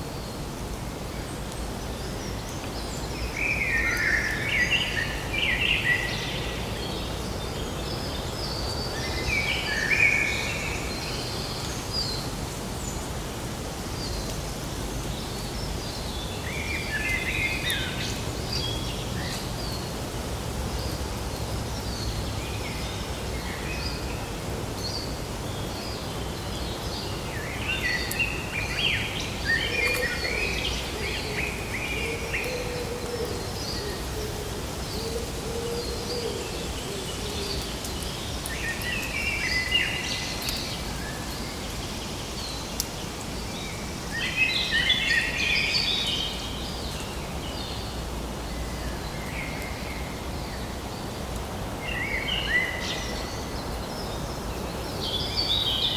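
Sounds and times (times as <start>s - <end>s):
outdoor background hiss: 0.0s - 55.9s.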